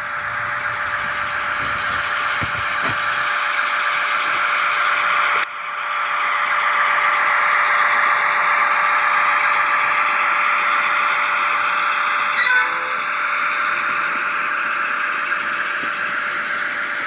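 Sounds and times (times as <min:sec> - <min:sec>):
model locomotive engine drone: 0:00.0 - 0:17.0
wheel and rail noise: 0:00.0 - 0:17.0.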